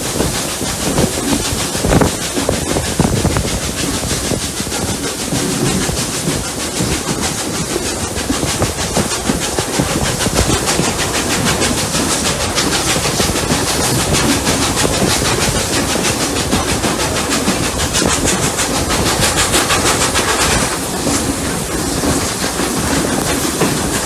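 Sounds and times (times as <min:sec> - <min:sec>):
steam hiss: 0:00.0 - 0:24.0
steam locomotive exhaust chuffs: 0:00.0 - 0:24.0
train running noise: 0:00.0 - 0:24.0.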